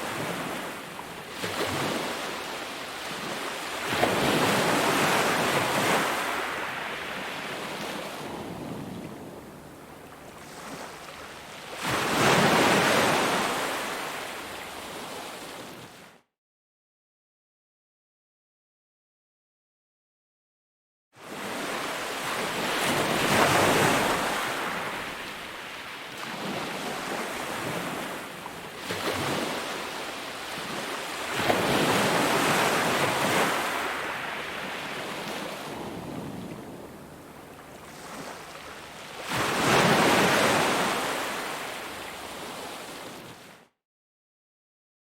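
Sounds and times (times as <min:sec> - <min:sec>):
ocean waves breaking: 0:00.0 - 0:15.9, 0:21.2 - 0:43.6.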